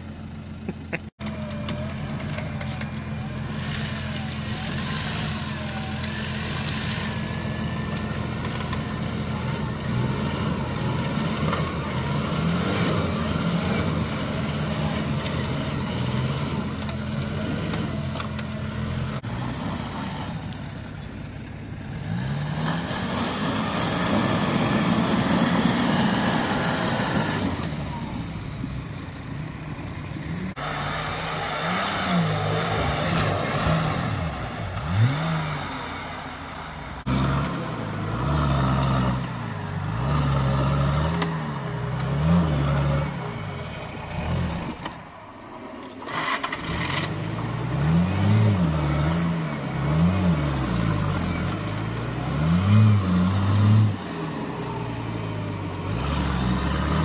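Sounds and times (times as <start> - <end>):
off-road engines revving: 0.0 - 57.0
tyres churning through mud: 0.7 - 28.6, 29.4 - 57.0.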